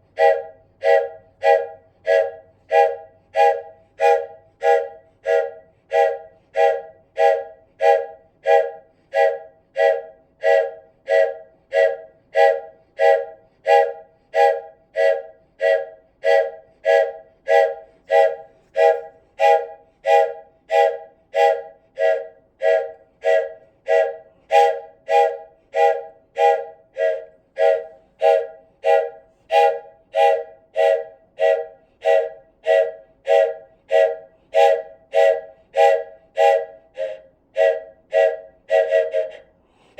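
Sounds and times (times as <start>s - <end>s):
wooden train whistle blasts: 0.0s - 39.9s.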